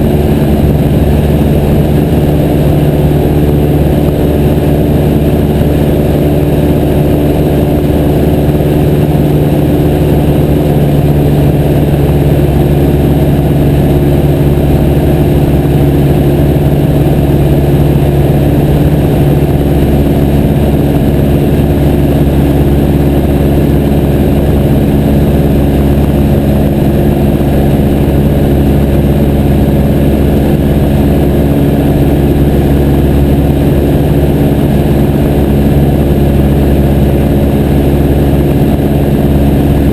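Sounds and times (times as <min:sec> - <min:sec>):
aircraft engine running: 0:00.0 - 0:39.9
rush of noise: 0:00.0 - 0:39.9.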